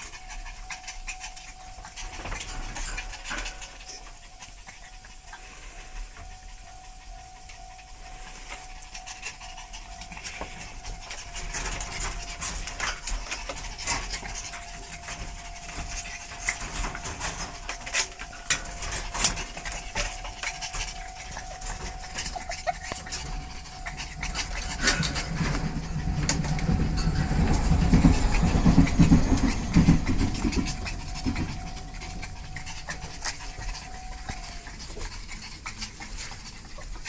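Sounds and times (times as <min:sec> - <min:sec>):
faint steady hum: 0:00.0 - 0:37.0
paws scuffling on tiled floor: 0:00.0 - 0:37.0
puppies panting: 0:00.0 - 0:37.0.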